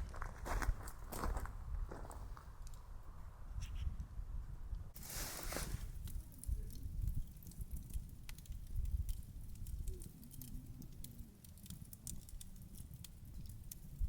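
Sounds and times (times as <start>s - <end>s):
campfire crackling: 0.0s - 3.3s, 4.9s - 14.0s.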